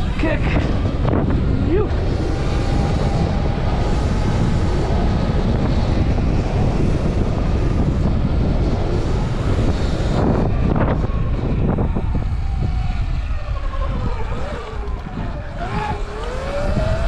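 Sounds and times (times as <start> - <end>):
electric dirt bike on dirt trail: 0.0 - 17.0
wind buffeting microphone: 0.0 - 17.0
faint electric motor whine: 0.5 - 17.0.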